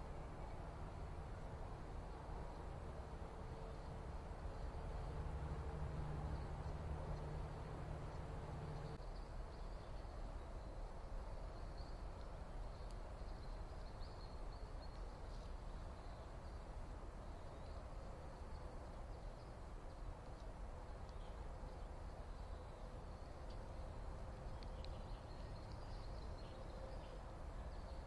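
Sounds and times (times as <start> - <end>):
low background rumble: 0.0 - 28.0
small birds chirping: 3.6 - 28.0.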